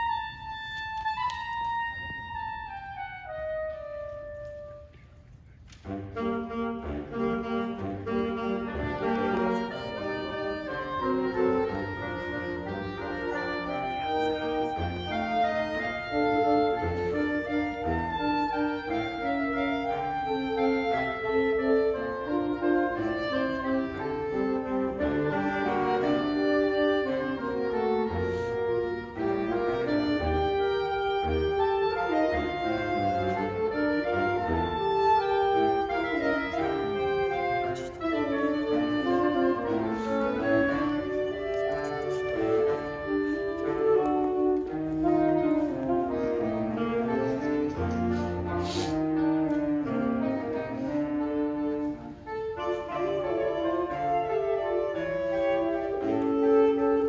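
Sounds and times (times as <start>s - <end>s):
saxophone quartet playing chords: 0.0s - 57.0s.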